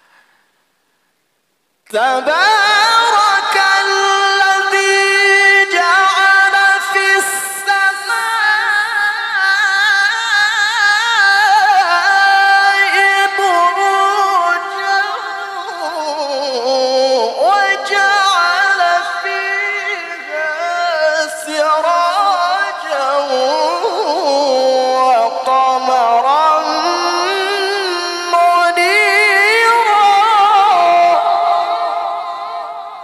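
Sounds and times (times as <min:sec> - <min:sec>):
man chanting into a microphone: 0:01.8 - 0:33.0.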